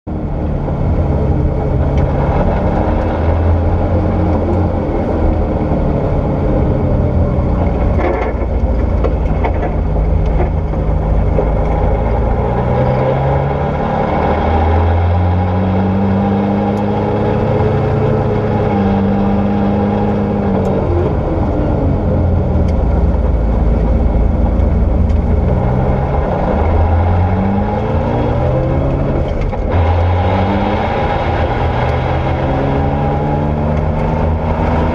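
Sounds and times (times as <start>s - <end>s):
rally car engine revving: 0.1s - 34.9s.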